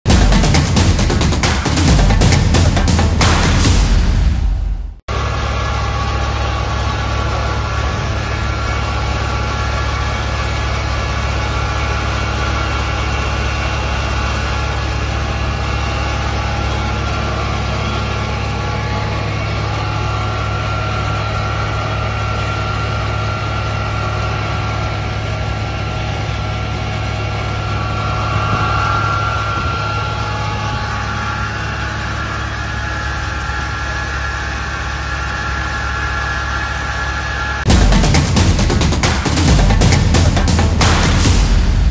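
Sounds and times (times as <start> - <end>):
fire engine idling: 5.1 - 41.0.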